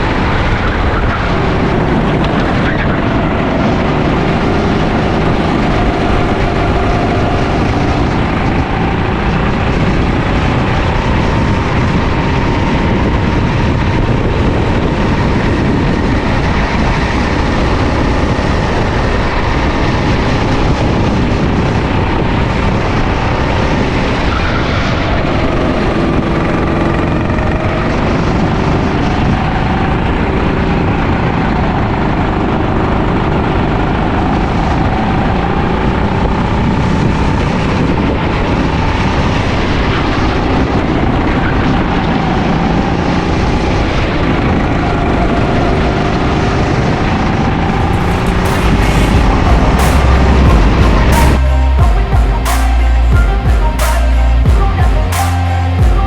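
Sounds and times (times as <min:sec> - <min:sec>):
go-kart engine racing: 0:00.0 - 0:51.8
wind and tyre noise: 0:00.0 - 0:56.0.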